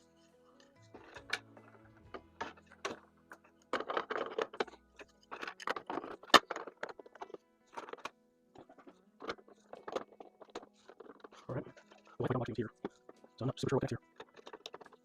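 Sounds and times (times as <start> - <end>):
small metal parts clicking and rattling: 0.0 - 15.0
soft background music: 0.0 - 15.0.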